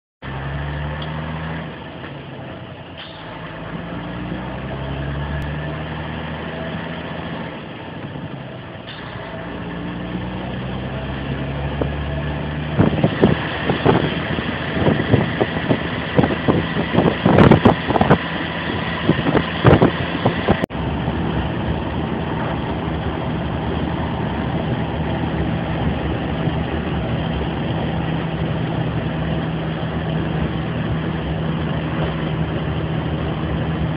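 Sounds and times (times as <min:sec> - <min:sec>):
truck diesel engine: 0:00.2 - 0:33.9.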